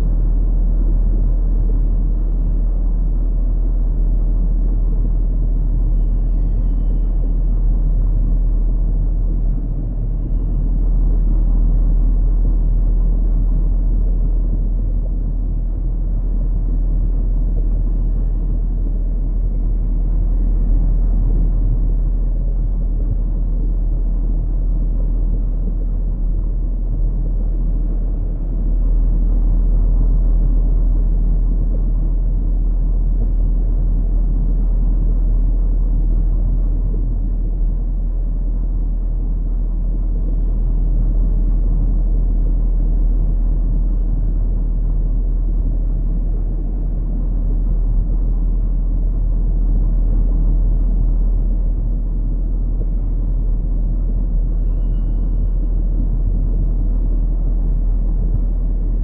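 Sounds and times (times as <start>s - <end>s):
deep rumbling noise: 0.0s - 59.0s.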